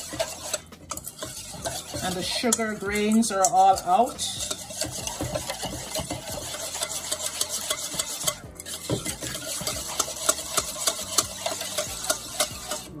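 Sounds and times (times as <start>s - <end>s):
wire whisk clicking against metal bowl: 0.0s - 13.0s.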